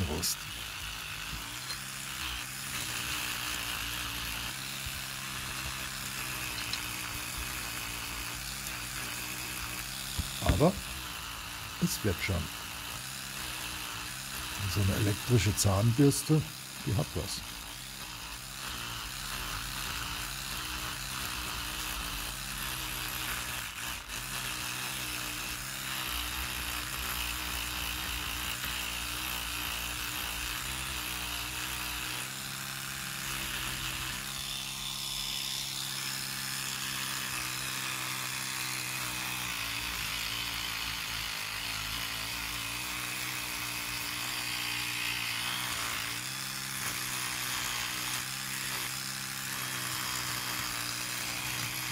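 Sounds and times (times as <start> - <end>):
electric toothbrush buzzing: 0.0 - 51.9.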